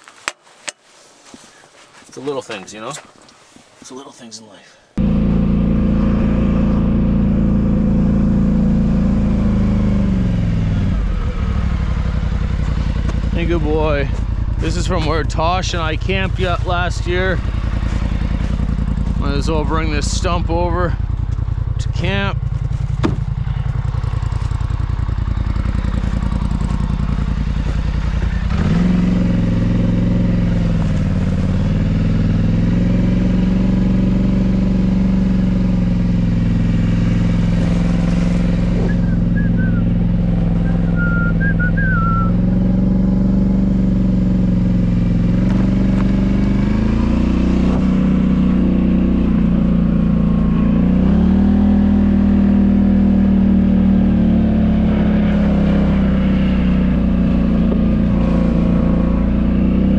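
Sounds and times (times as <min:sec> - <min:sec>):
atv engine running: 0:05.0 - 0:59.9.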